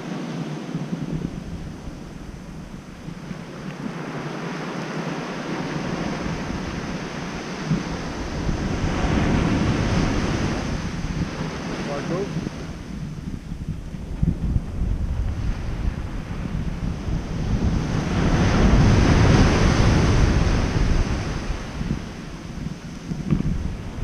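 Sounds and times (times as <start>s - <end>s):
surf washing onto beach: 0.0s - 24.0s
wind rumbling on microphone: 0.0s - 24.0s.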